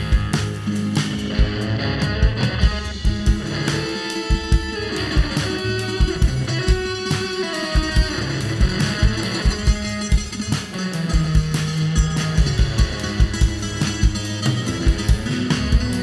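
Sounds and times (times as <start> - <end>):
guitars: 0.0 - 16.0
steady drum beat: 0.0 - 16.0
upright bass: 0.0 - 16.0.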